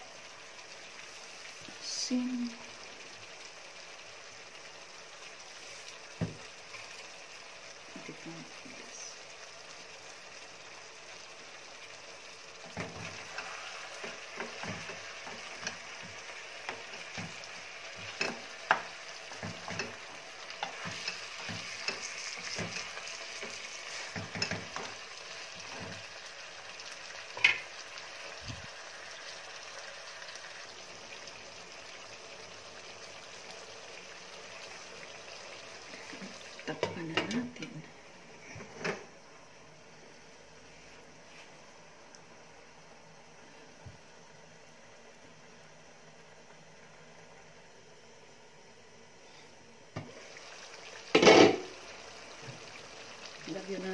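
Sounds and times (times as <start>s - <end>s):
chicken sizzling in a frying pan: 0.0s - 40.6s, 43.4s - 53.9s.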